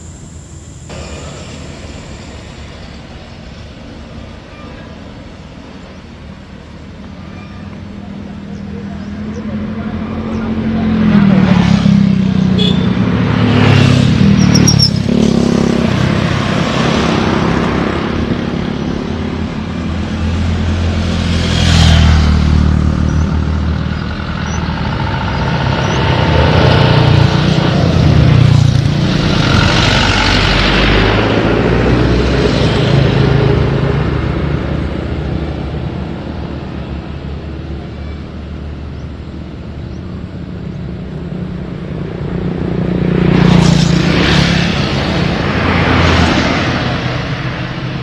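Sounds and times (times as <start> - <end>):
cars passing close by: 0.0 - 48.0.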